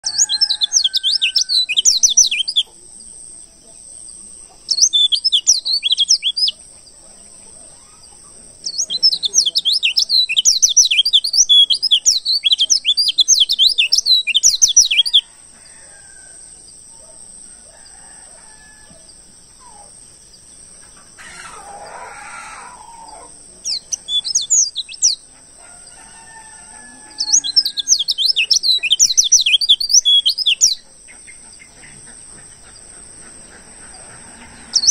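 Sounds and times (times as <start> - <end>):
bird twittering chirps: 0.0 - 15.3, 18.7 - 34.9.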